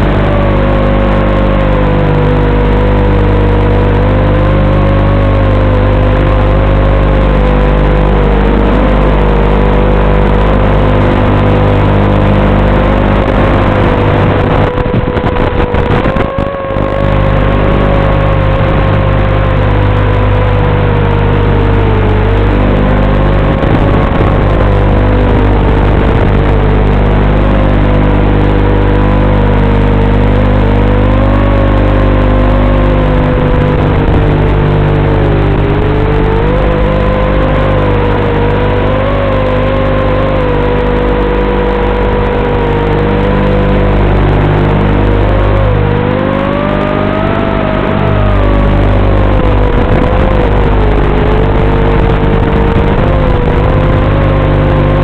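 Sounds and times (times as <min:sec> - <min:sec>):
drone motors whining: 0:00.0 - 0:55.0
low electrical hum: 0:00.0 - 0:55.0
radio crackle: 0:00.0 - 0:55.0.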